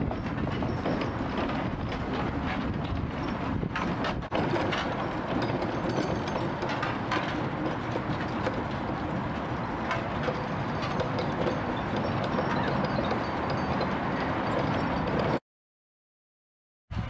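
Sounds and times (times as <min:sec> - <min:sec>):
steam locomotive rumble and clatter: 0:00.0 - 0:15.4.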